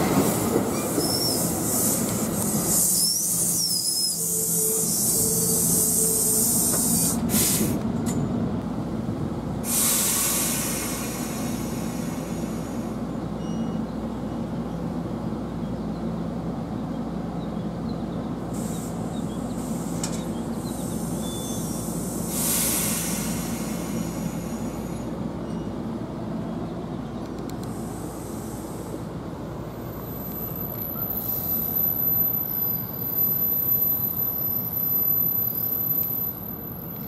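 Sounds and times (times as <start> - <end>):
train rumble and hum: 0.0 - 37.0.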